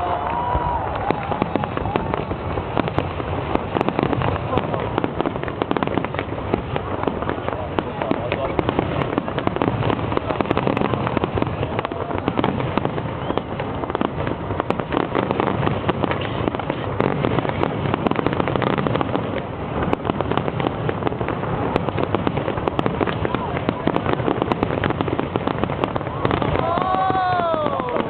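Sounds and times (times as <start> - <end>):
fireworks popping and crackling: 0.0 - 28.0.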